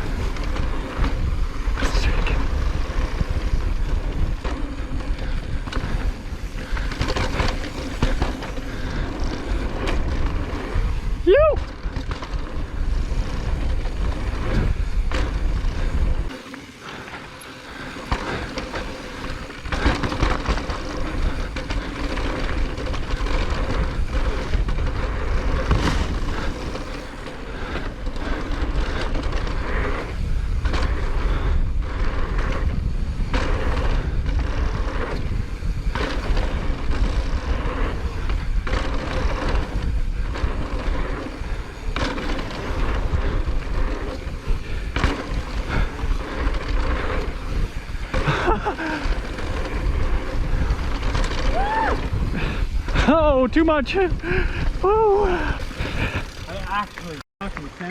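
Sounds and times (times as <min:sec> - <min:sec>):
wind rumble on microphone: 0:00.0 - 0:16.3, 0:18.1 - 0:56.5
bike clattering over bumps: 0:00.0 - 0:57.9
bike tyres rolling over dirt: 0:00.0 - 0:57.9.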